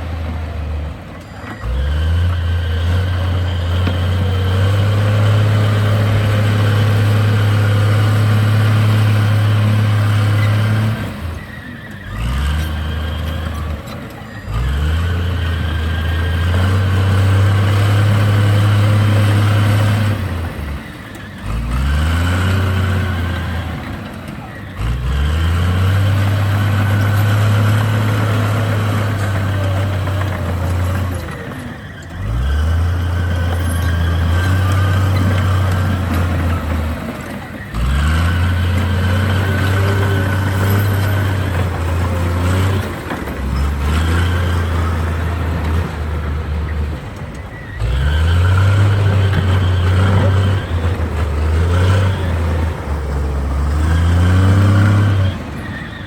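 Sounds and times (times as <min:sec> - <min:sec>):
heavy diesel engine working hard: 0:00.0 - 0:56.0.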